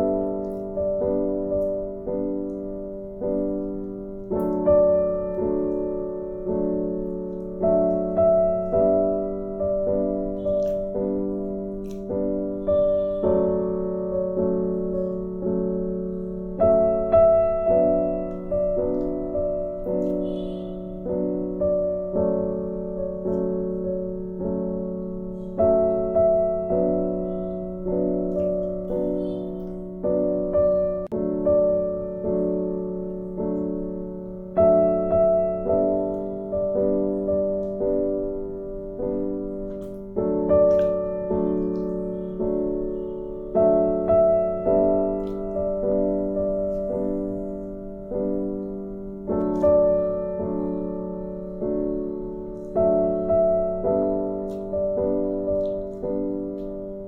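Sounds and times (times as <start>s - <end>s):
slow gentle piano melody: 0.0s - 57.0s.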